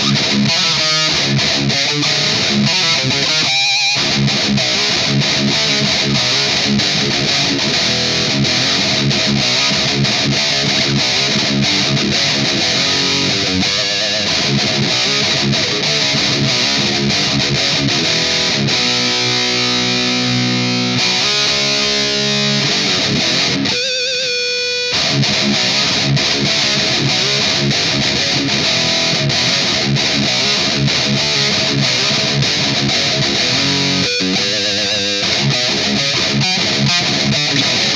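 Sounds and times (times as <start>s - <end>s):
distorted electric guitar riff: 0.0s - 37.9s.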